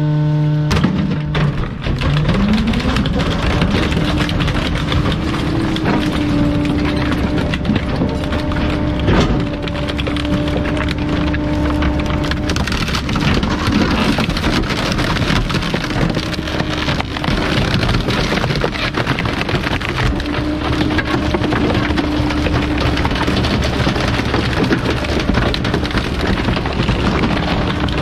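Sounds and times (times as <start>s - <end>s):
compactor crushing items: 0.5s - 28.0s.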